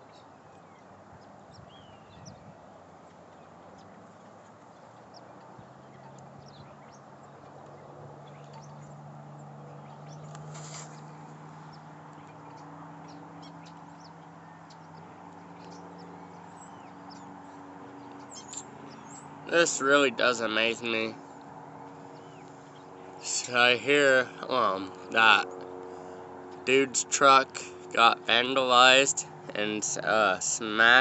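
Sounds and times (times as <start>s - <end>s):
distant helicopter hum: 0.0s - 31.0s.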